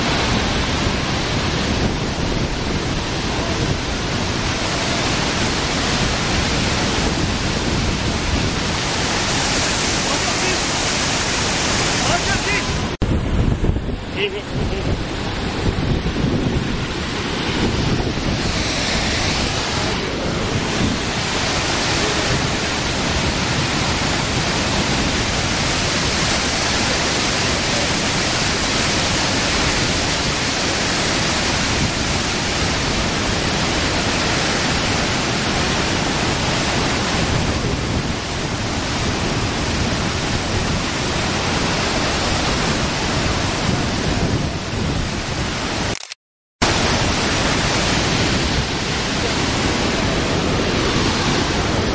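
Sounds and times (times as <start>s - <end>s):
waterfall rushing: 0.0s - 46.0s, 46.6s - 51.9s.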